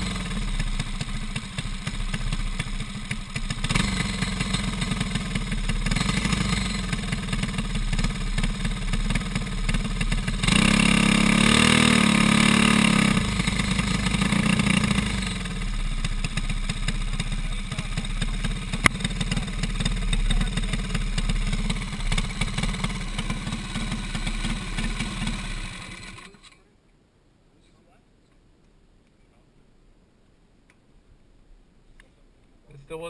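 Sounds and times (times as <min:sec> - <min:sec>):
kart engine revving and idling: 0:00.0 - 0:26.6.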